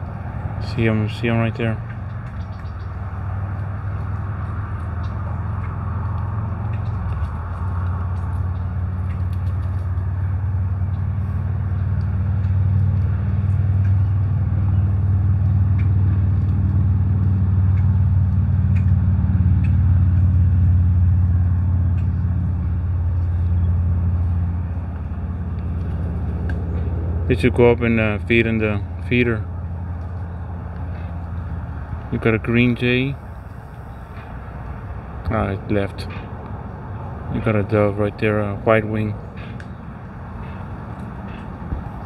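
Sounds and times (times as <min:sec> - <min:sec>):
low engine-like rumble: 0:00.0 - 0:42.0.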